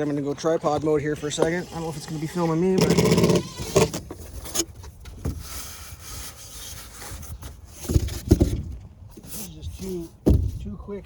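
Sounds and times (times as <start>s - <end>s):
handling noise knocks and rubbing: 0.0s - 10.8s.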